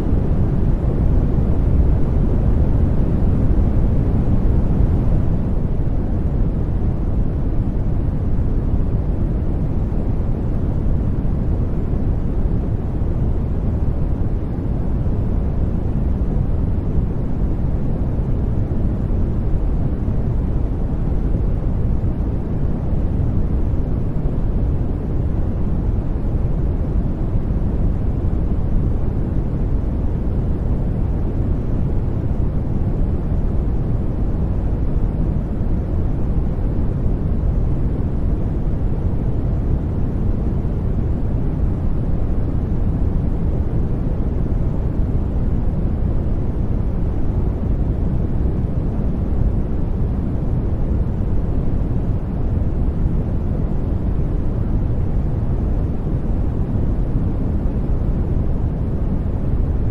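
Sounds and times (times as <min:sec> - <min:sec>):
deep white noise: 0:00.0 - 0:59.9.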